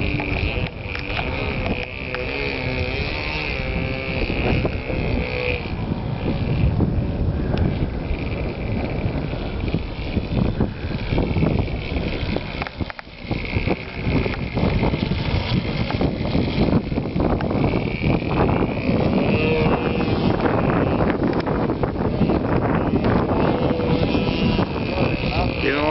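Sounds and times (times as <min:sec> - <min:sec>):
model airplane engine whining: 0:00.0 - 0:25.9
wind buffeting microphone: 0:00.0 - 0:25.9.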